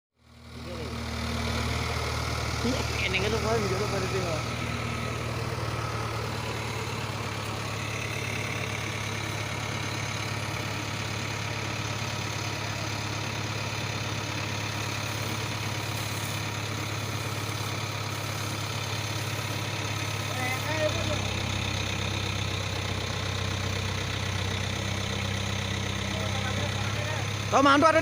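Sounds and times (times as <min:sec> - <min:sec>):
tractor diesel engine running: 0:00.2 - 0:28.0.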